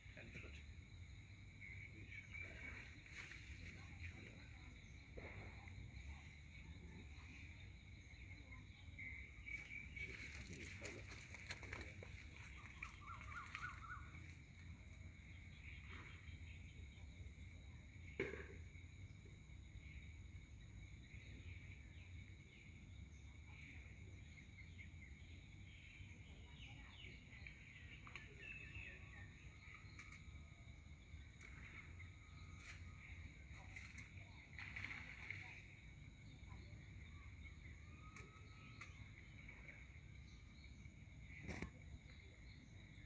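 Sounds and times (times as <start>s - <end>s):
faint bird chirps: 0.0s - 18.2s, 21.0s - 43.0s.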